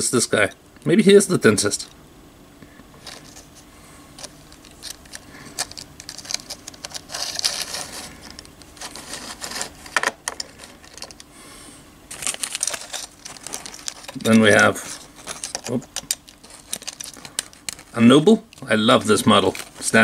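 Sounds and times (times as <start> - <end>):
handling rustles: 2.8 - 11.3, 12.1 - 20.0.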